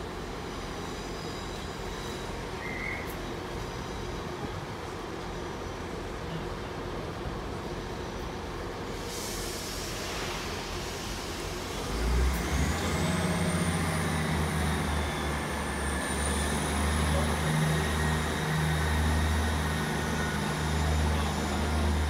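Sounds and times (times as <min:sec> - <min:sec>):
diesel train engines droning: 0:00.0 - 0:22.0.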